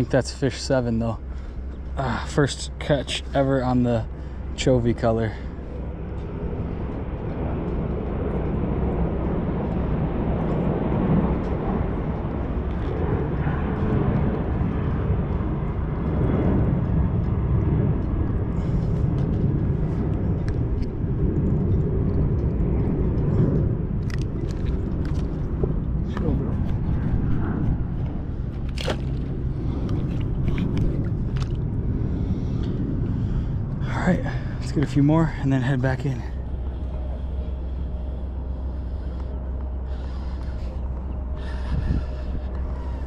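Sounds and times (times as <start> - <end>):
jet aircraft roar: 0.0 - 43.0.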